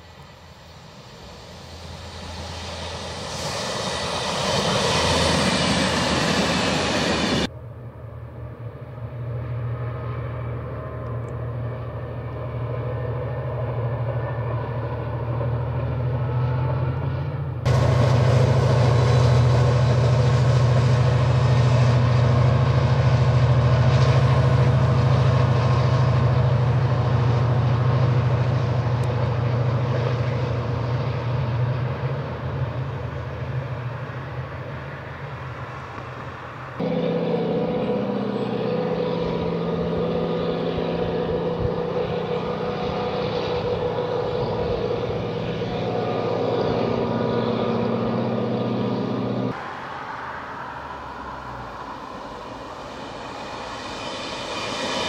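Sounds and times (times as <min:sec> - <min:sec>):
diesel engine higher hum: 0:00.0 - 0:55.0
diesel train engine drone: 0:00.0 - 0:55.0.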